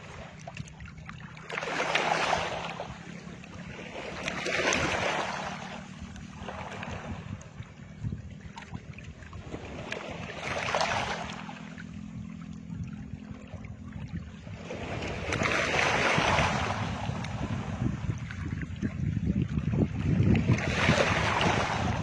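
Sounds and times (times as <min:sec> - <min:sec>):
water washing against jetty: 0:00.0 - 0:22.0
wind rumbling on microphone: 0:00.0 - 0:22.0
low steady hum: 0:02.4 - 0:20.6.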